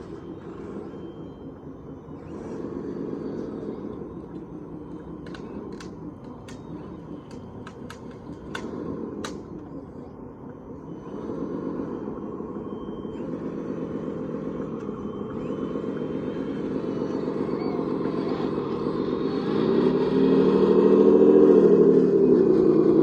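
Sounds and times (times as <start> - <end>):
model motor droning: 0.0 - 23.0.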